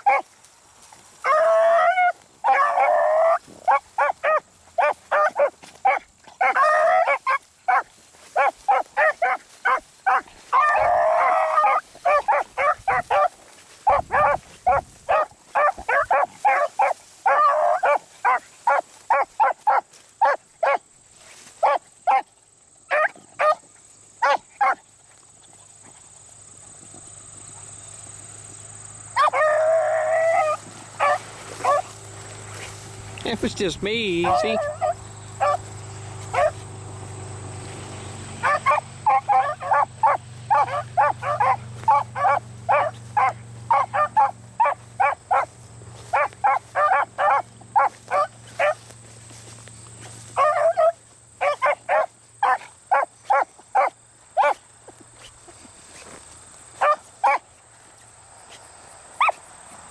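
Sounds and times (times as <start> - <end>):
dogs baying and barking: 0.0 - 59.9.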